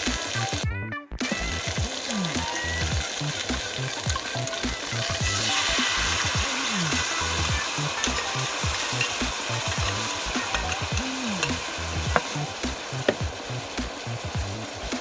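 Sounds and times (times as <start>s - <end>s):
food sizzling in a pan: 0.0s - 0.6s, 1.2s - 15.0s.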